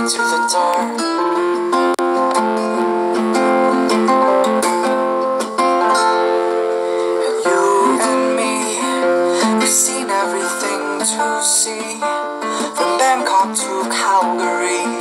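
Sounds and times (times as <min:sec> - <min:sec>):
acoustic guitar playing chords: 0:00.0 - 0:15.0.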